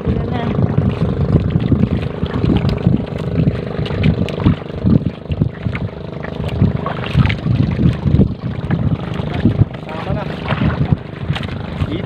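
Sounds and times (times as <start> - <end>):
boat engine running: 0.0 - 12.0
low thuds and splashing: 0.0 - 12.0.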